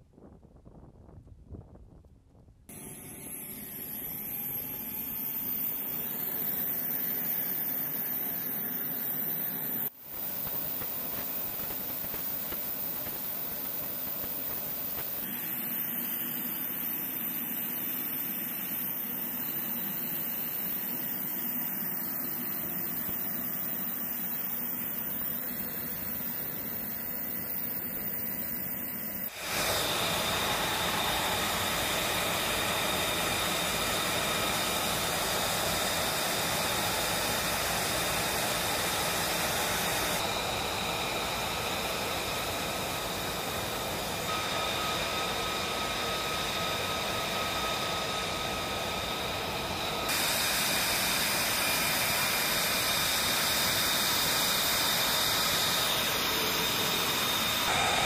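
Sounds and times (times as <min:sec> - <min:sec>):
jet engine high whine: 0:02.7 - 0:58.0
jet engine rushing hiss: 0:02.7 - 0:58.0.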